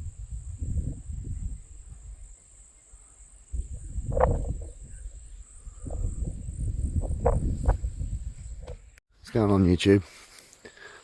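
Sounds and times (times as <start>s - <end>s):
insects chirring: 0.0s - 9.0s.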